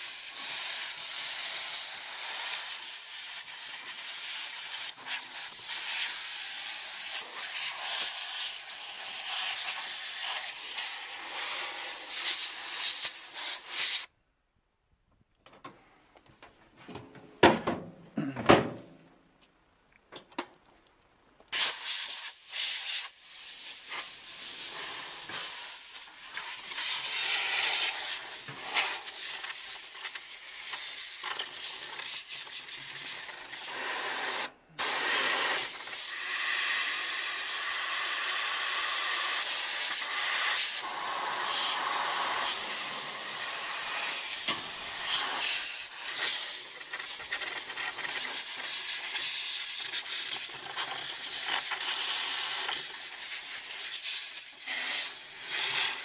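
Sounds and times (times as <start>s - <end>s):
compressed air blow gun hissing: 0.0s - 14.1s, 21.5s - 56.0s.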